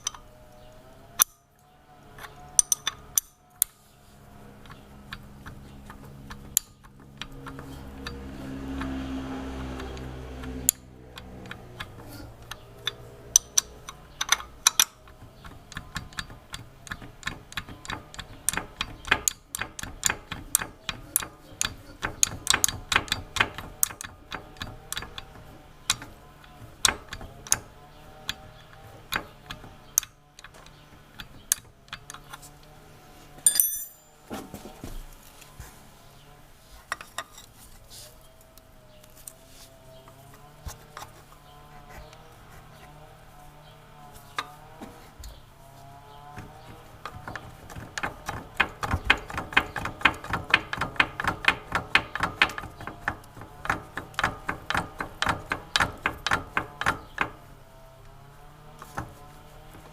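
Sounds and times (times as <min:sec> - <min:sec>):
engine ticks and clicks: 0:00.0 - 0:32.9, 0:38.2 - 0:59.9
motorcycle engine humming: 0:00.0 - 0:59.9.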